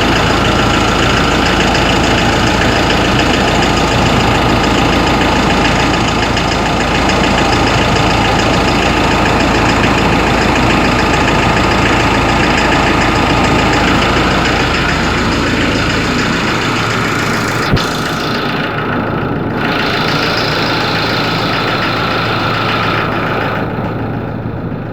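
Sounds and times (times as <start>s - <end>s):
diesel engine idling with knocking: 0.0s - 24.9s.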